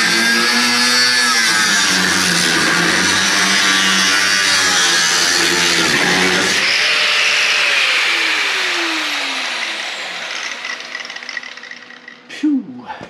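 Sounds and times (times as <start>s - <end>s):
cutting tool spinning down: 0.0s - 12.3s
power cutting tool cutting metal: 0.0s - 12.3s.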